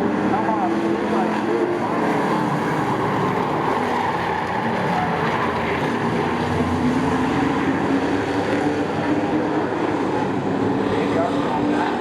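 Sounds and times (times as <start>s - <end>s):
racing truck engines droning: 0.0s - 12.0s.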